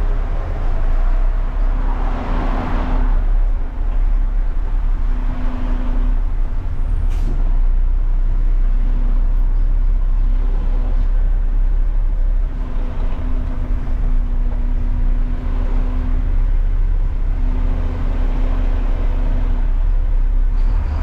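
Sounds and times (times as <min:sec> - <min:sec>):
garbage truck engine rumble: 0:00.0 - 0:21.0.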